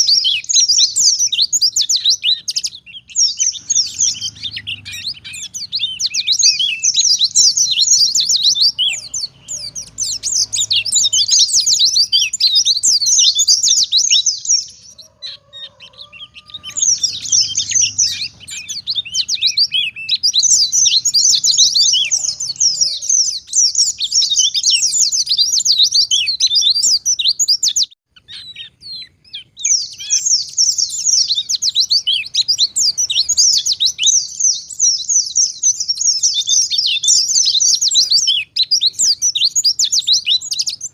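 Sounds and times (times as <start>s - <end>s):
bird twittering: 0.0s - 40.9s.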